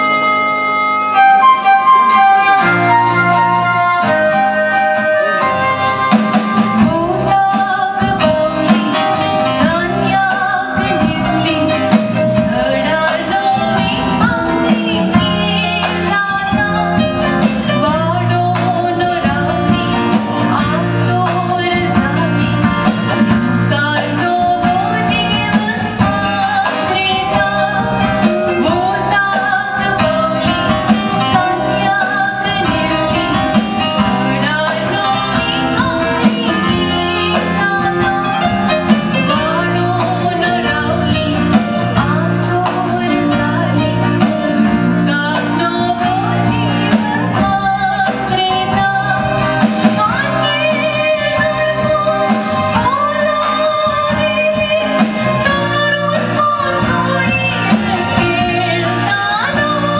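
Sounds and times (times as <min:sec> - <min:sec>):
band with drums and electric guitars: 0:00.0 - 0:59.9
woman singing: 0:00.0 - 0:59.9.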